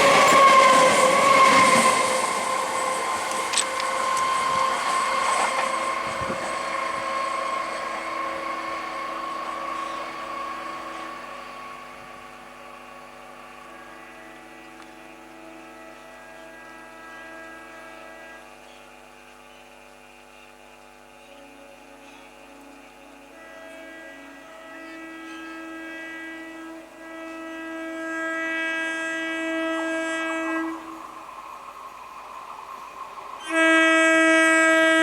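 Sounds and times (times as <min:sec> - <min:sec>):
electric train whine: 0:00.0 - 0:35.0.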